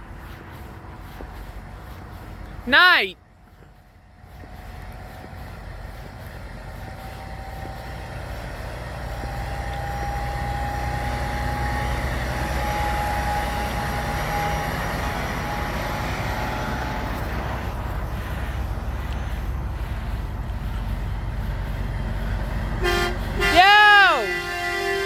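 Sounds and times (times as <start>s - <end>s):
truck engine rumble: 0.0s - 25.0s.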